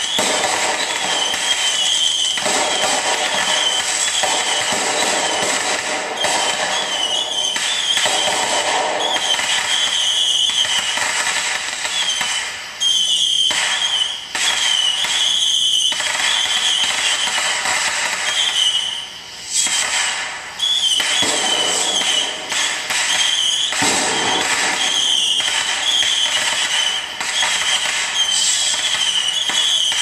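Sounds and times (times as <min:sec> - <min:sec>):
fireworks crackling: 0:00.0 - 0:30.0
fireworks high whine: 0:00.0 - 0:30.0.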